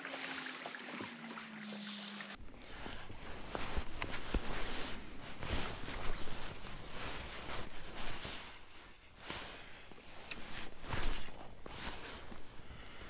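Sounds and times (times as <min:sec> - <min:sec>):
rod and reel rustling: 0:01.7 - 0:12.6.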